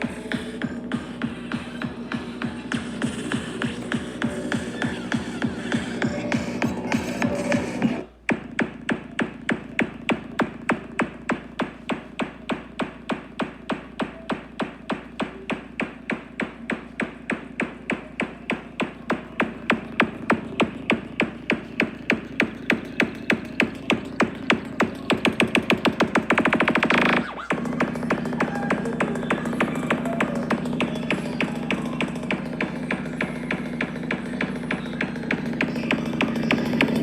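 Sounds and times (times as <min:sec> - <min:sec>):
electronic dance music: 0:00.0 - 0:37.0.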